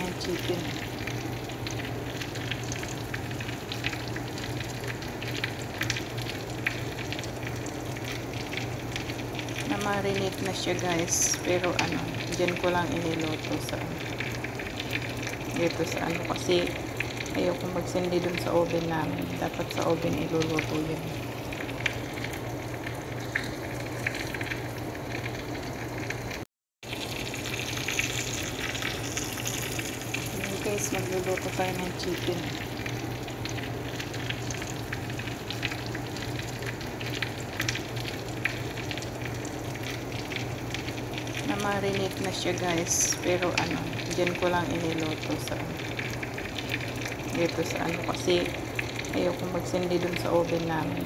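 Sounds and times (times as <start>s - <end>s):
chicken sizzling in a pan: 0.0s - 51.0s.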